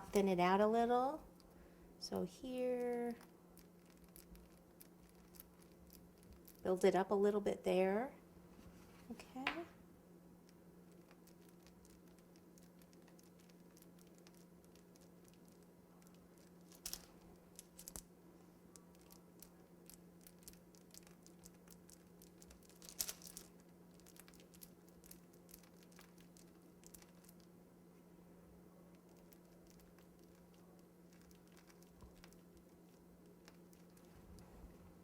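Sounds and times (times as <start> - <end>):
piping bag crinkling and clicking: 0.0 - 7.1, 10.4 - 28.1, 28.8 - 35.0
steady low hum: 0.0 - 35.0.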